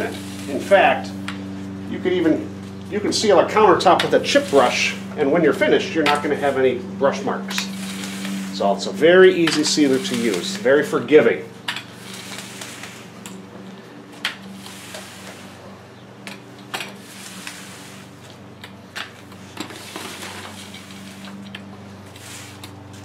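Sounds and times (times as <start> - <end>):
paint roller wet swishing: 0.0 - 23.0
steady low hum: 0.0 - 23.0.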